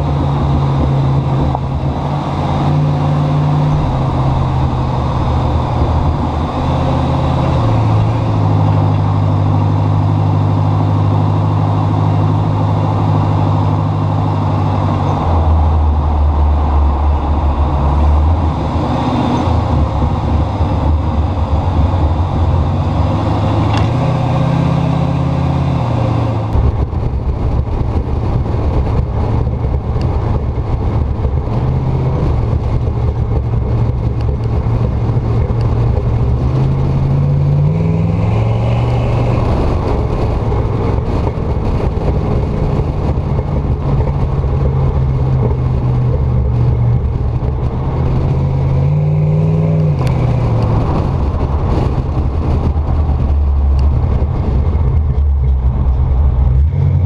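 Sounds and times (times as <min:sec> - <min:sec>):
pickup engine and exhaust: 0:00.0 - 0:57.0
road and wind noise: 0:00.0 - 0:57.0.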